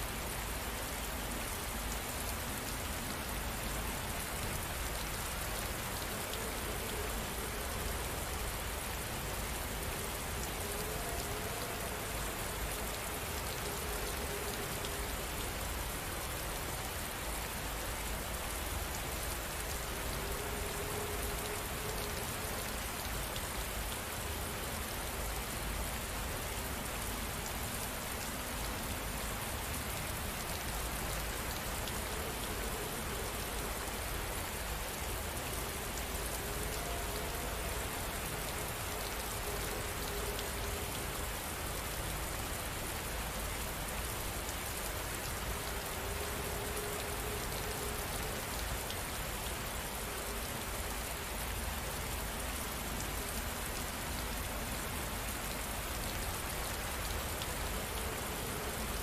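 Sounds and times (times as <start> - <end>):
rain against a window: 0.0 - 59.0.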